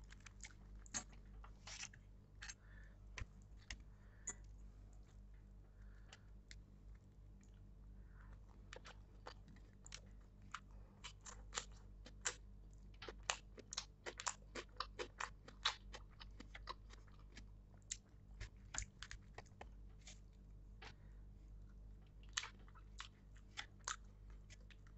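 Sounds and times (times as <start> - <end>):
person chewing crunchy food: 0.0 - 4.4, 8.3 - 21.0, 22.0 - 24.9
faint low hum: 0.0 - 24.9.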